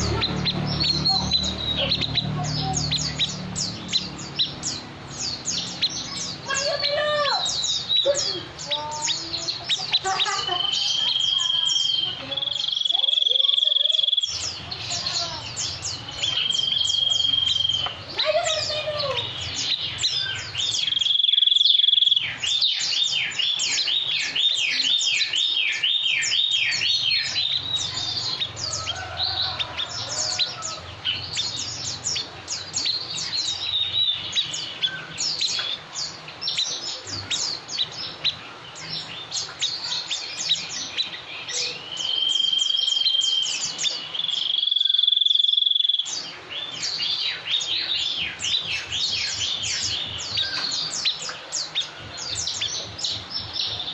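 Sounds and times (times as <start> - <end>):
songbird chirping: 0.0 - 53.9.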